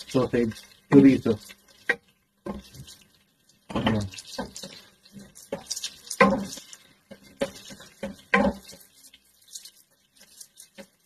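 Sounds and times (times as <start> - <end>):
wooden spatula scraping metal pot: 0.0 - 11.0.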